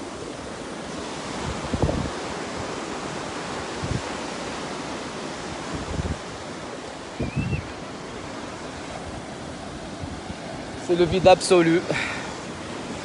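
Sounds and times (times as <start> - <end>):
surf breaking on rocky shore: 0.0 - 13.0.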